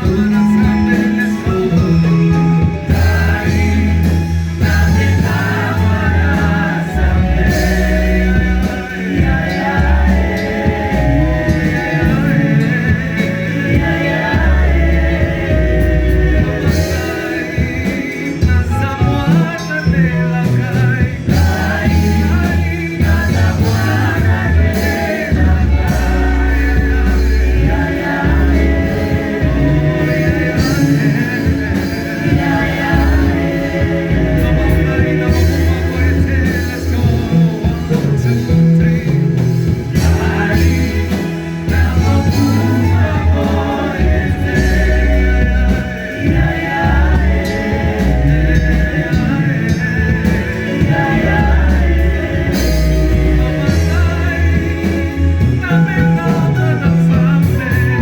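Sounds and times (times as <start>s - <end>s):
gospel music with singing: 0.0s - 58.0s.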